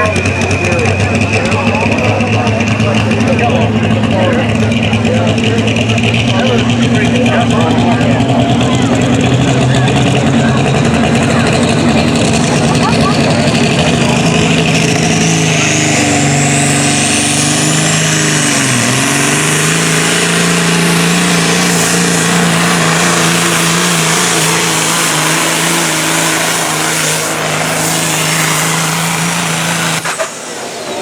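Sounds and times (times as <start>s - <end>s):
diesel truck engine revving: 0.0s - 31.0s.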